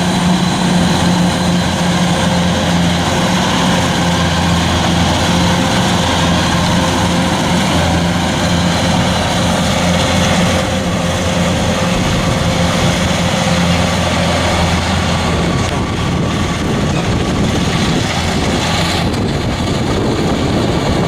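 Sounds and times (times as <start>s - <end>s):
diesel engine drone: 0.0s - 21.0s
harvesting machinery clatter: 0.0s - 21.0s.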